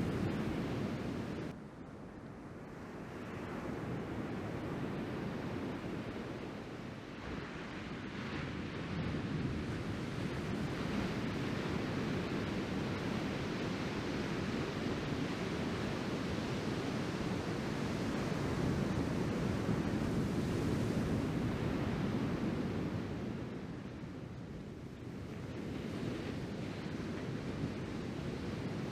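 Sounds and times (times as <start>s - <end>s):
wind on microphone: 0.0s - 28.9s.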